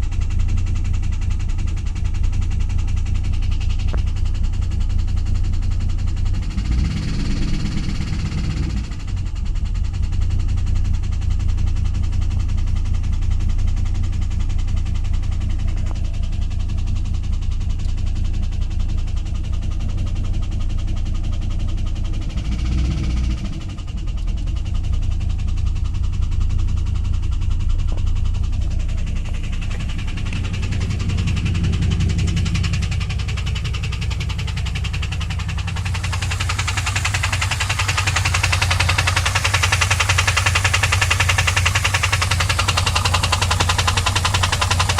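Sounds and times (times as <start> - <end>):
engine running with ticking knock: 0.0 - 44.9.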